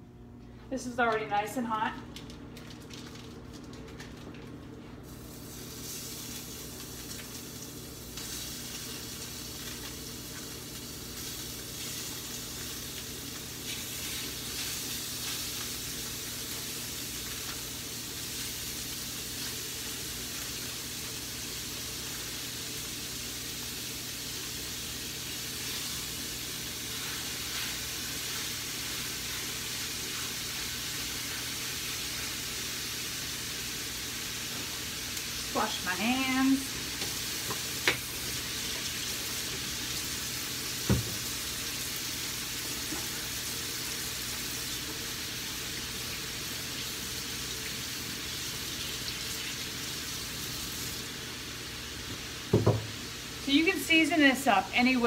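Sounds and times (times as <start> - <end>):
meat sizzling in a frying pan: 5.0 - 53.8.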